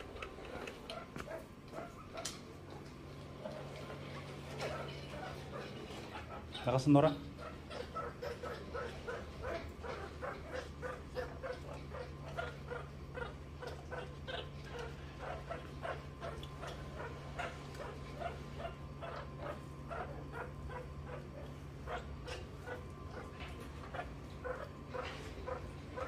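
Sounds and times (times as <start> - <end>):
meerkats peeping chirps: 4.5 - 26.0.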